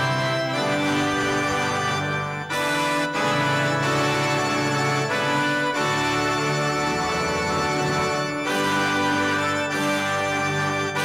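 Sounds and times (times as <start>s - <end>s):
electronic keyboard organ chords: 0.0s - 11.0s.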